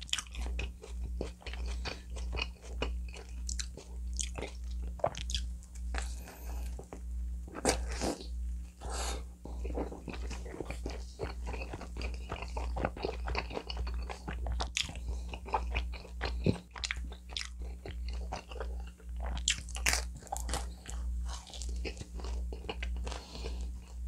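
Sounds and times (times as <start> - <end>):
crunching and chewing pizza: 0.0 - 24.0
steady low hum: 0.0 - 24.0.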